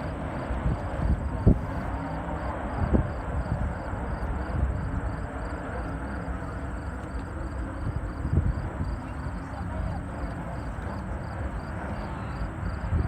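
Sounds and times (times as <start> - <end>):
distant boat engines rumbling: 0.0 - 13.0
wind buffeting microphone: 0.0 - 13.0.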